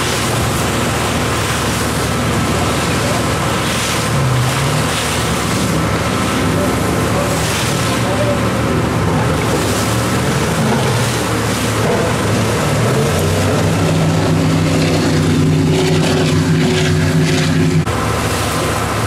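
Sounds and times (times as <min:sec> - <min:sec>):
powerboat engine at high speed: 0:00.0 - 0:19.0.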